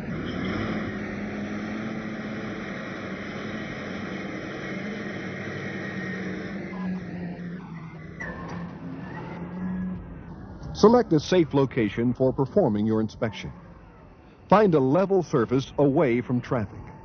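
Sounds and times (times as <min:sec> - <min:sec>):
haul truck diesel engine droning: 0:00.0 - 0:17.0.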